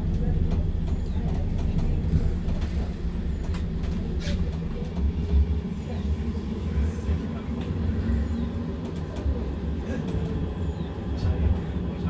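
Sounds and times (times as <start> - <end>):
tram rumbling from inside: 0.0 - 12.0.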